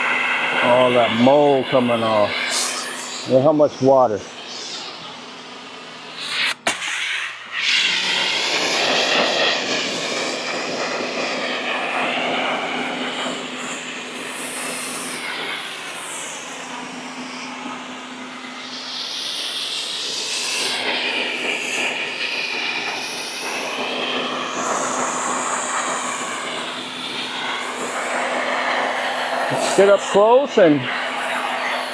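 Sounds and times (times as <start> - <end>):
high-pressure water spray hissing: 0.0 - 5.1, 6.0 - 31.9
pressure washer motor humming: 0.0 - 31.9.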